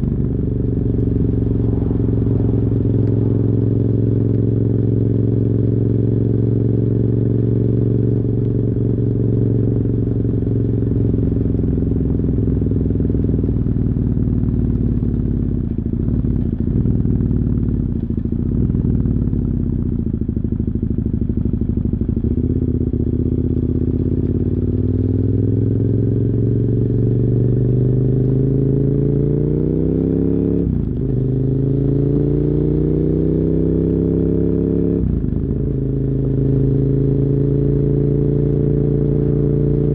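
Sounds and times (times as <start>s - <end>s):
muffled motorcycle engine: 0.0s - 39.9s.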